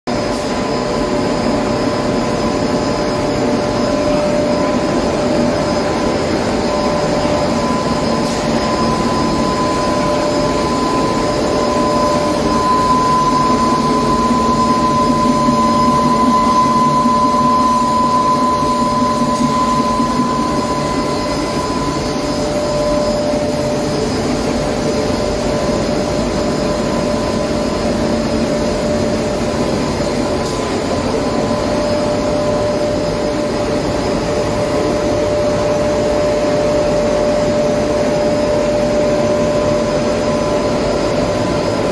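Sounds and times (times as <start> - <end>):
grinding machine whirring: 0.1 - 41.9
high mechanical whine: 0.1 - 41.9.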